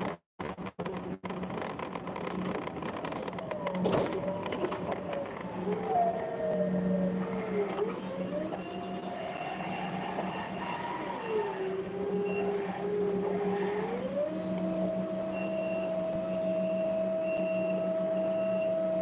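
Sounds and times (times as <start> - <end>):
electric motor whining: 2.0 - 19.0.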